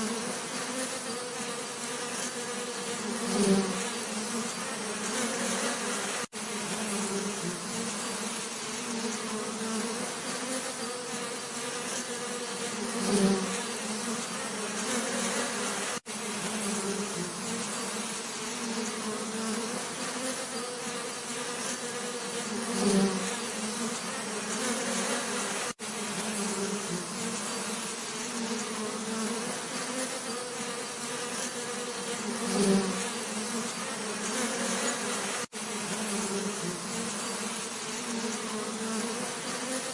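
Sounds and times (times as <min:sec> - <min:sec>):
honeybees buzzing: 0:00.0 - 0:39.9.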